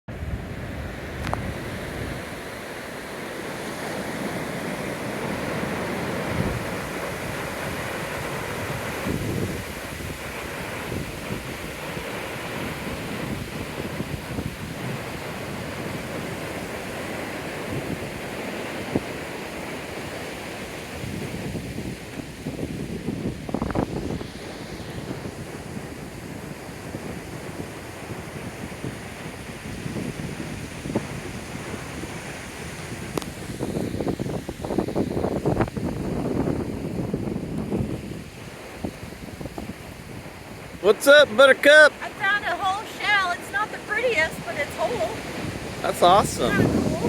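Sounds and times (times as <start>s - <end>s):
ocean surf on beach: 0.1s - 47.0s
wind buffeting microphone: 0.1s - 47.0s.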